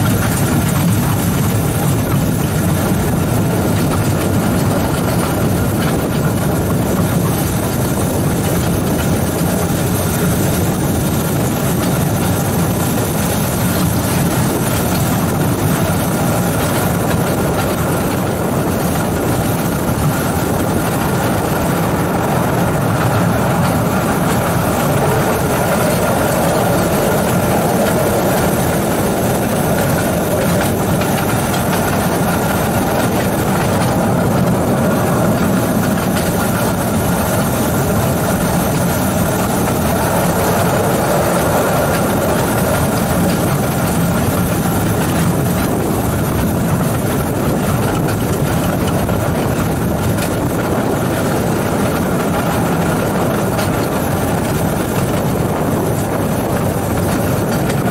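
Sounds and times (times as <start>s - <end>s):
electric locomotive rumbling on track: 0.0s - 57.9s.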